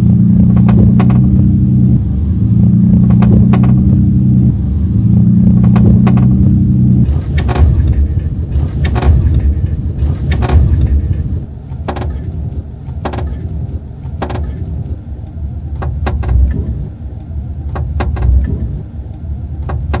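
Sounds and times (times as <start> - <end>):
low road rumble: 0.0 - 20.0
car trim creaking clicks: 0.3 - 2.1, 2.8 - 20.0.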